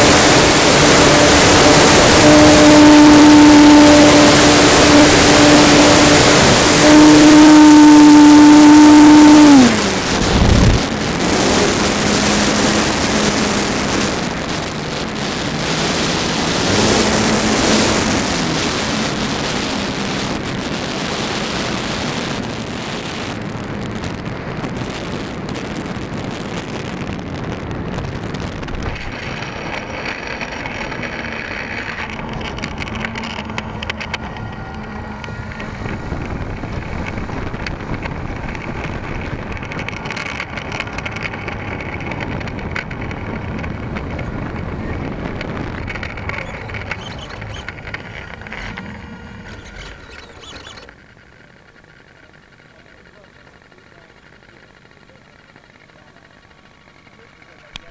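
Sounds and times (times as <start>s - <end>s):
wind rushing over microphone: 0.0s - 50.9s
electric motor and propeller whining: 0.0s - 57.9s
low motor hum: 0.0s - 57.9s.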